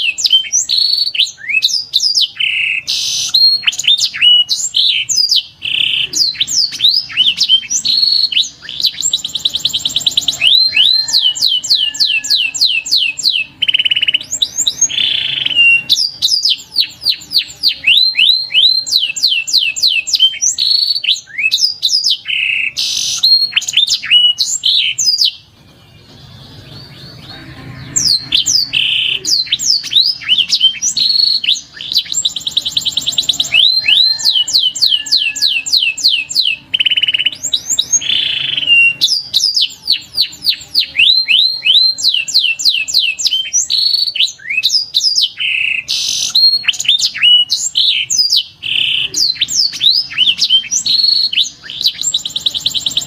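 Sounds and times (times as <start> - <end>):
canary singing: 0.0 - 53.0.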